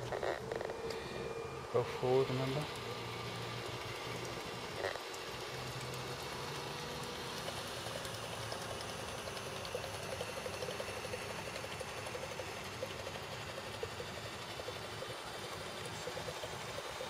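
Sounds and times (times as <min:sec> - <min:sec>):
faint low motor hum: 0:00.0 - 0:17.0.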